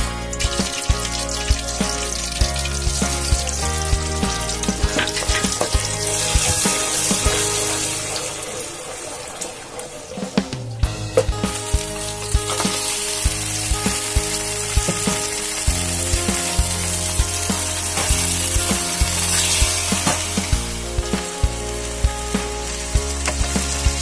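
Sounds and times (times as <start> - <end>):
background music with beat: 0.0 - 8.5, 10.3 - 24.0
meat sizzling in oil: 0.0 - 24.0.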